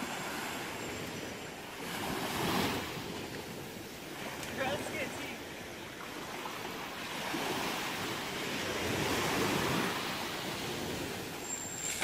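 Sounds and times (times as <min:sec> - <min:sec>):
sea surf washing onto beach: 0:00.0 - 0:11.6.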